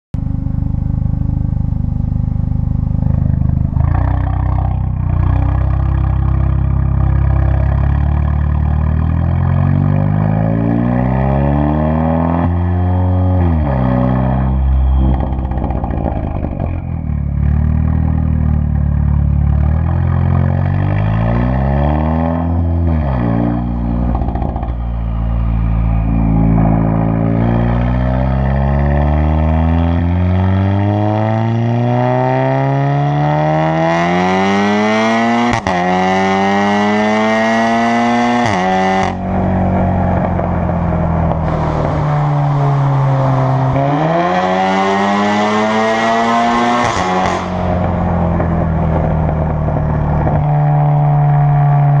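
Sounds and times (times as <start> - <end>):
car engine accelerating: 0.2 - 52.0.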